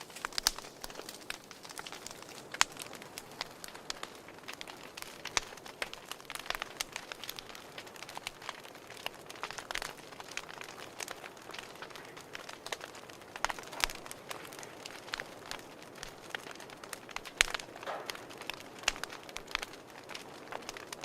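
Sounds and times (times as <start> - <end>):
burning wood popping: 0.0 - 21.0
fireplace crackling: 0.0 - 21.0.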